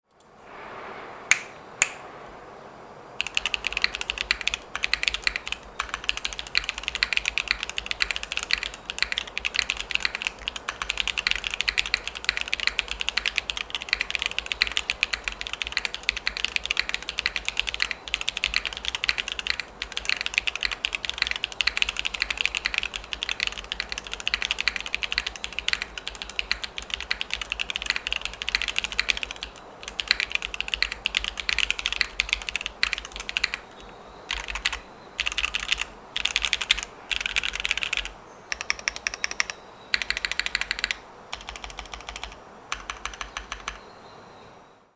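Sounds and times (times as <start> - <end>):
mechanical keyboard typing: 3.2 - 43.8.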